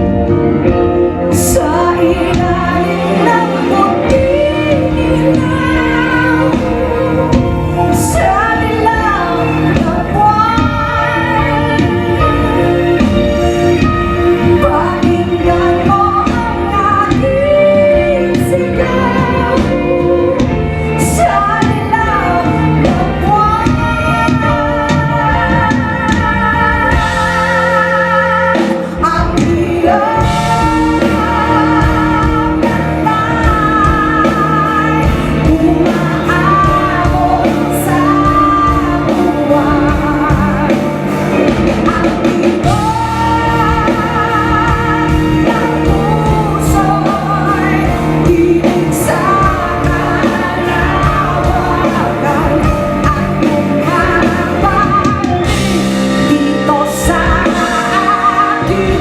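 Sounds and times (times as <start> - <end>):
live band with singing: 0.0 - 59.0.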